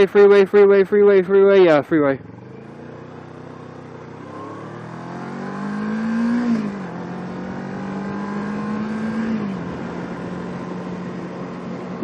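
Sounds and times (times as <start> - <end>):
motorcycle engine accelerating: 2.0 - 12.0.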